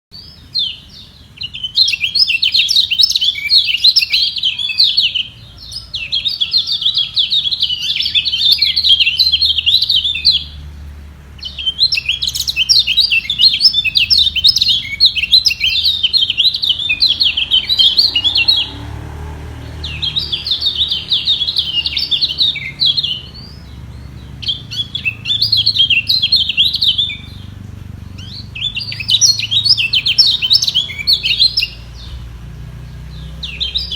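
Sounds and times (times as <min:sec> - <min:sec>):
birds twittering song: 0:00.1 - 0:33.9.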